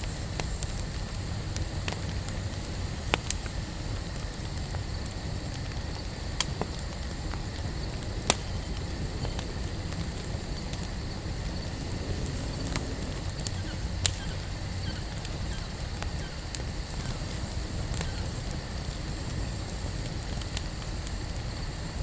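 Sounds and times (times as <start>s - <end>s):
burning wood crackling: 0.0s - 22.0s
campfire flames rushing: 0.0s - 22.0s.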